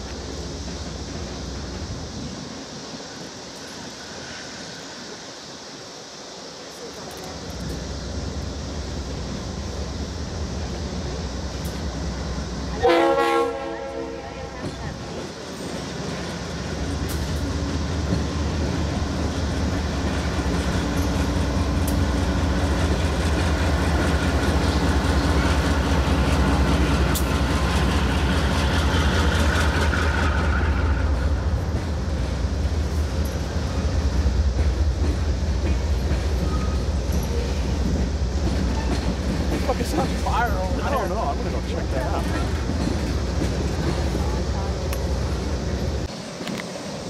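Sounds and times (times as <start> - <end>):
diesel locomotive rumbling: 0.0 - 47.0.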